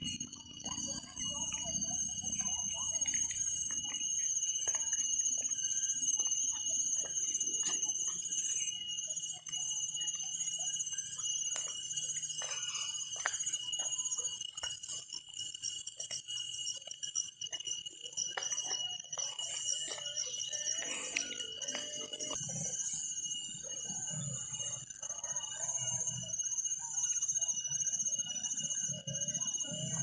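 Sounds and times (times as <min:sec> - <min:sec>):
insects chirring and trilling: 0:00.0 - 0:30.0.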